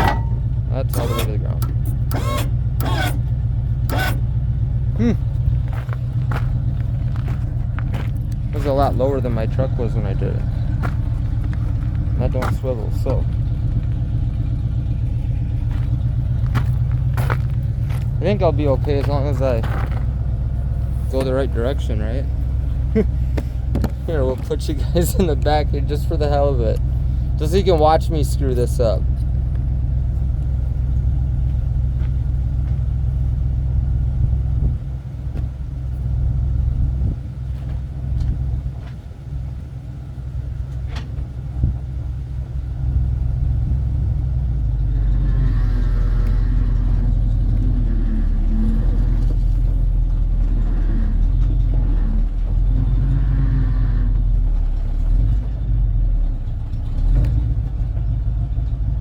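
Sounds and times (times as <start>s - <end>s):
truck engine rumbling: 0.0s - 59.0s.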